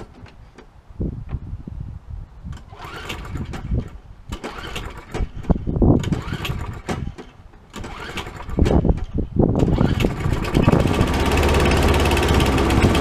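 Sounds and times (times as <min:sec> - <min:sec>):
engine turning over whir: 0:02.5 - 0:13.0
recoil starter cord pulls: 0:02.5 - 0:13.0.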